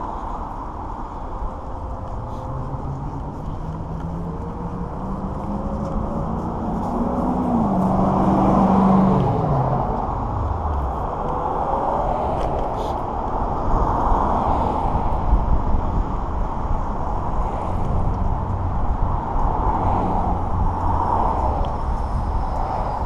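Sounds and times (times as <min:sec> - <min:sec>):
passing traffic: 0:00.0 - 0:23.0
road noise: 0:00.0 - 0:23.0
rushing wind: 0:00.0 - 0:23.0.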